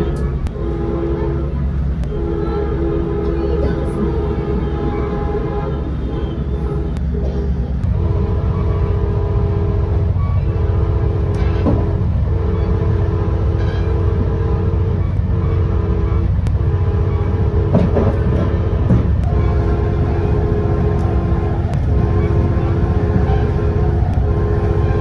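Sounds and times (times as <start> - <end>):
locomotive air horn blasts: 0.0 - 25.0
low rumble of moving train: 0.0 - 25.0.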